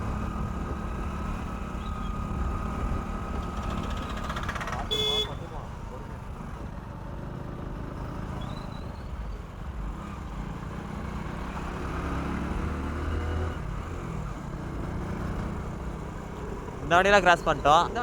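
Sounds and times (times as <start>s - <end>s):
motorcycle engine humming: 0.0s - 18.0s
road and wind noise: 0.0s - 18.0s.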